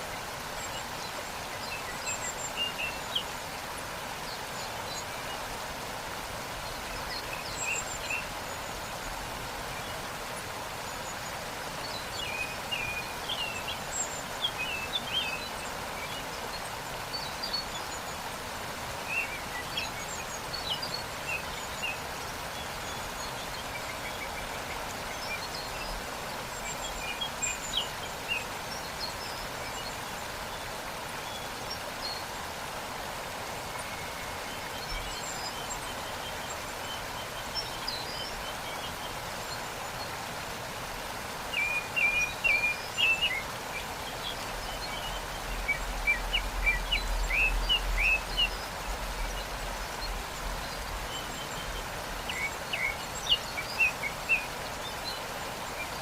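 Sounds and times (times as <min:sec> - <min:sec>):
songbirds chirping: 0:00.0 - 0:56.0
waterfall rushing: 0:00.0 - 0:56.0.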